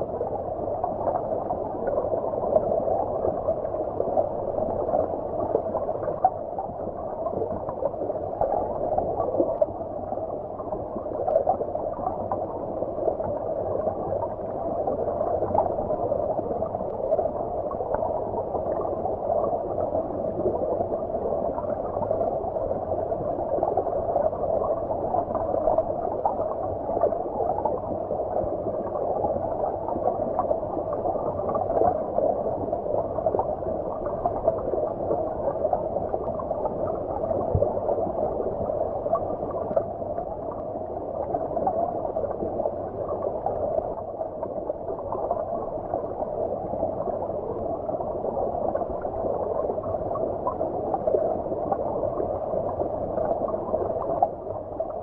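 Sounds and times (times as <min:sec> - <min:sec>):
muffled underwater stream rushing: 0:00.0 - 0:55.0.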